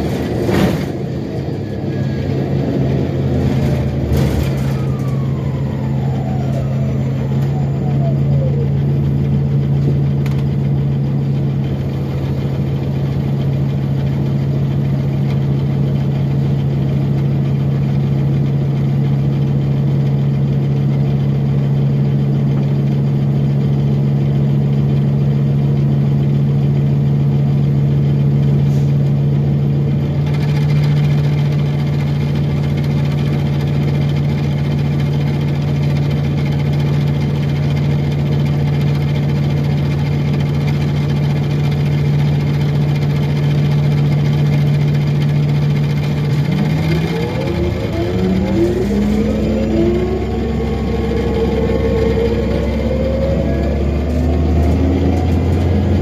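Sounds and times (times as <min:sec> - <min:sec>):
bus drivetrain hum: 0:00.0 - 0:56.0.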